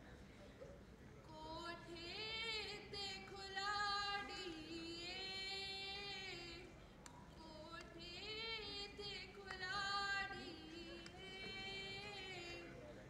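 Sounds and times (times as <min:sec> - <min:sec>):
woman singing unaccompanied: 0:01.3 - 0:12.8.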